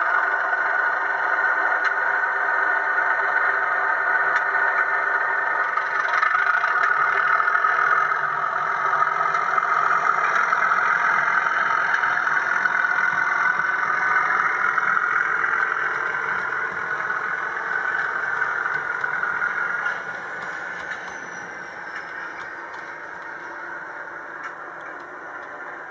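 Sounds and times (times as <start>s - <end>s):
model train humming: 0.0s - 25.9s.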